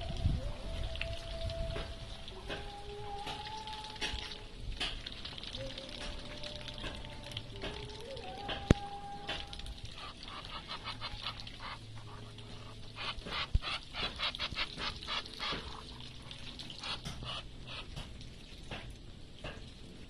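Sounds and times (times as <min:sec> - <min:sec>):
ducks dabbling in water: 0:00.8 - 0:20.0.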